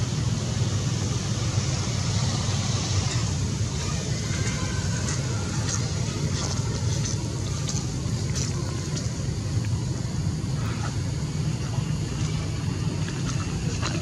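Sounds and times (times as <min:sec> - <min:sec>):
hiss: 0:00.0 - 0:11.3.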